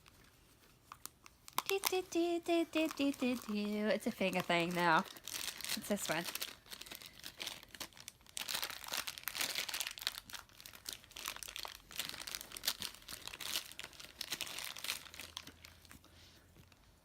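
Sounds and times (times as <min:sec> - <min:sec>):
crinkly packaging torn open: 0:00.9 - 0:16.0.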